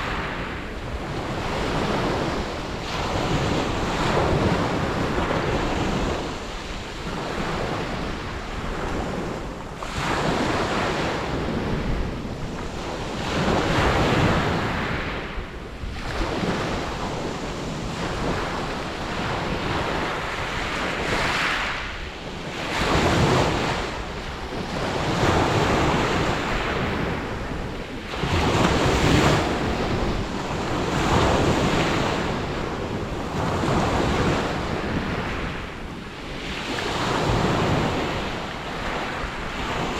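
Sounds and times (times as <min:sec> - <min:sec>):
sea waves breaking on beach: 0:00.0 - 0:39.9
wind on microphone: 0:00.0 - 0:39.9.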